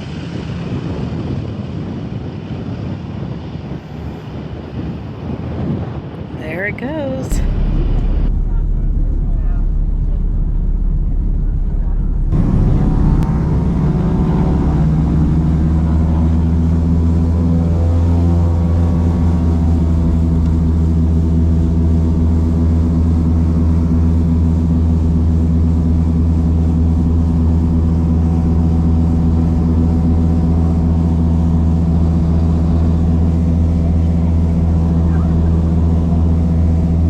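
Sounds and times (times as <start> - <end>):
propeller plane engines droning: 0.0 - 37.0.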